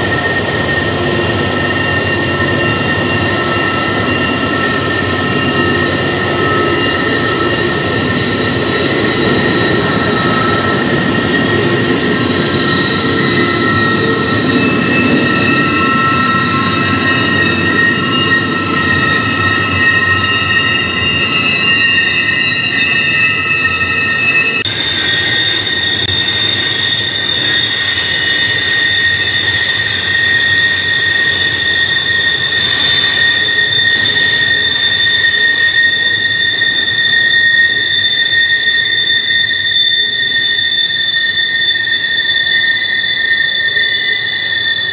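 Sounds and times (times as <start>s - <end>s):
rumble of train wheels: 0.0s - 44.9s
wheel flanges squealing on rail: 0.0s - 44.9s.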